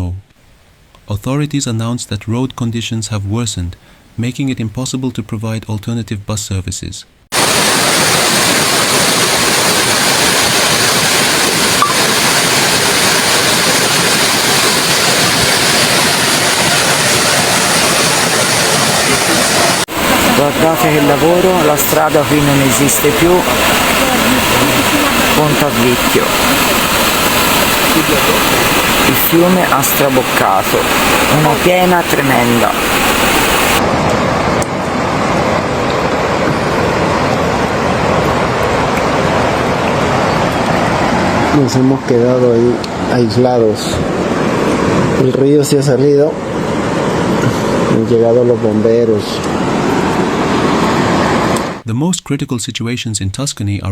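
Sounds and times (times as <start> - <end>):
roar of rushing floodwater: 7.3 - 51.8.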